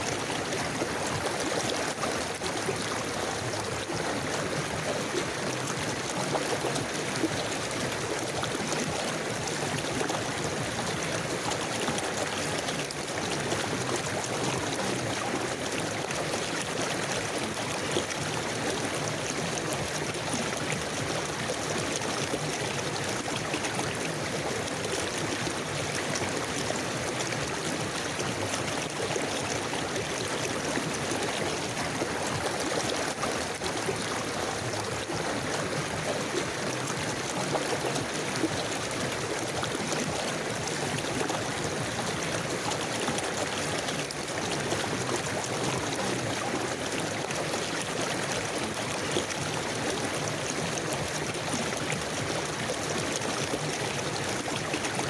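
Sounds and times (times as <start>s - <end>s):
river water burbling over stones: 0.0s - 55.0s.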